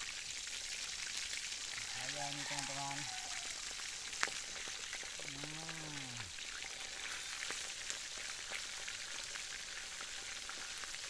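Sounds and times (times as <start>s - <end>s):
fish sizzling in hot oil: 0.0s - 11.0s
oil crackling and popping: 0.0s - 11.0s.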